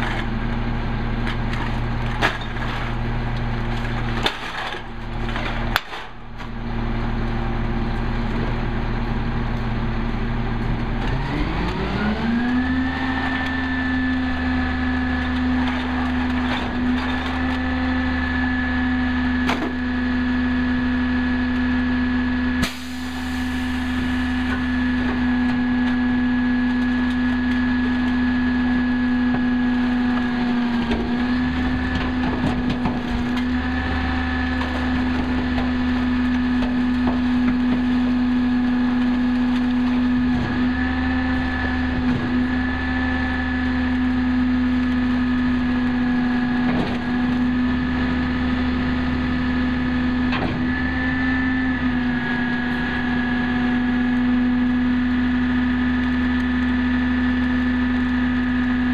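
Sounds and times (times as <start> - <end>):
truck engine idling and revving: 0.0 - 58.9.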